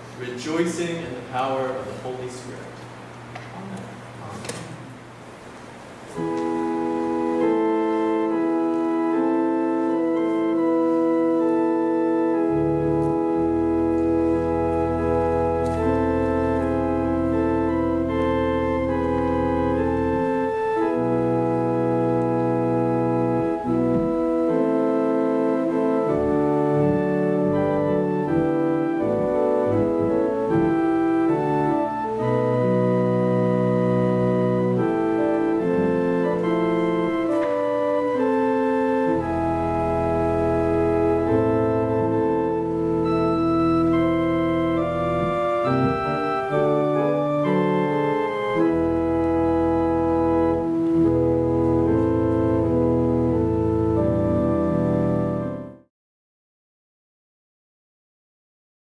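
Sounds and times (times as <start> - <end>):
church organ playing chords: 0.0 - 3.3, 4.0 - 55.9
deep organ bass notes: 4.8 - 55.9.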